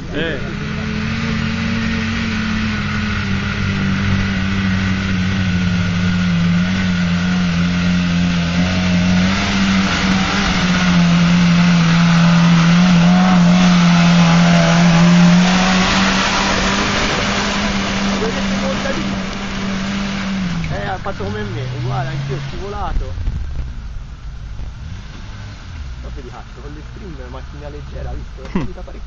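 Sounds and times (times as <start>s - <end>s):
off-road vehicle engine: 0.0s - 29.0s.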